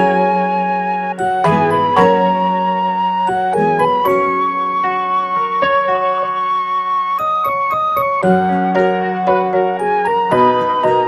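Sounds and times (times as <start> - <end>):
light keyboard melody: 0.0 - 11.0.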